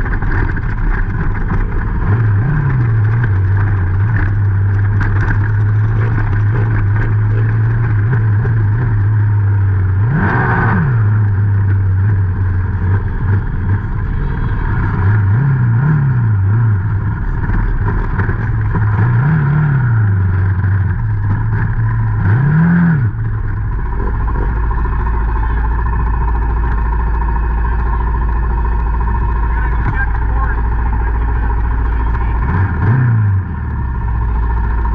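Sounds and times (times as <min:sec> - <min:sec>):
quad engine revving: 0:00.0 - 0:34.9.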